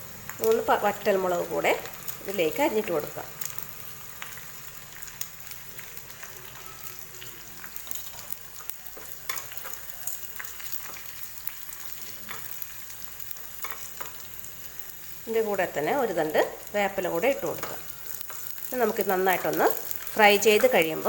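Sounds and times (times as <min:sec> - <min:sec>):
spices frying in hot oil: 0:00.0 - 0:21.0.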